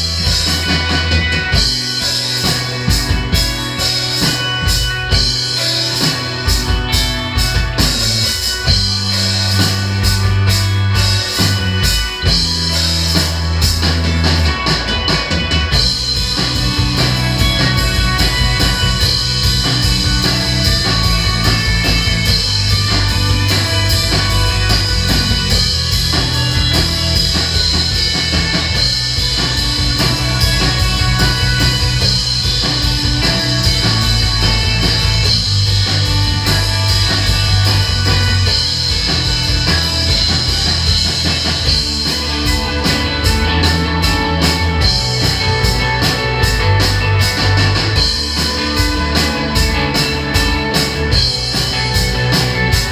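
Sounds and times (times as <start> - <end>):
rock band playing loudly: 0.0 - 52.9.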